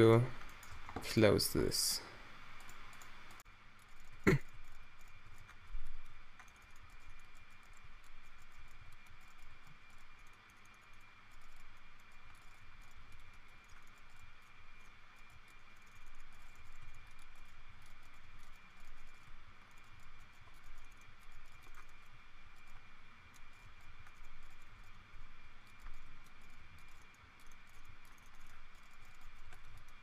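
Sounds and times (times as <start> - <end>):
faint steady hiss: 0.0 - 30.0
keyboard and mouse clicking: 2.6 - 30.0.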